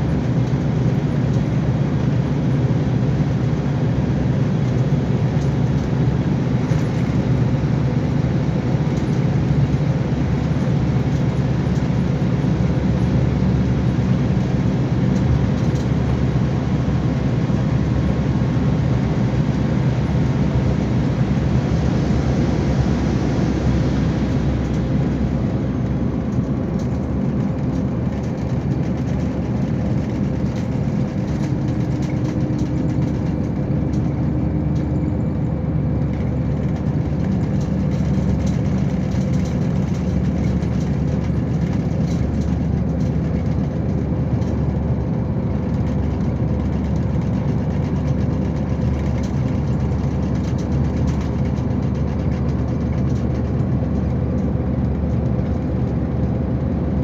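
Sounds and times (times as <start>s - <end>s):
bus diesel engine drone: 0.0s - 57.0s
clicking rattles from bus body: 0.0s - 57.0s
road noise: 0.0s - 57.0s.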